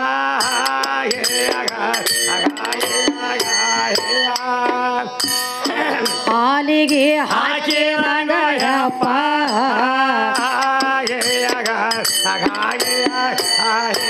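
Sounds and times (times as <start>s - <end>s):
voices singing chant-like melody: 0.0s - 14.0s
frame drum beats: 0.4s - 14.0s
hand cymbals clinking: 0.4s - 14.0s.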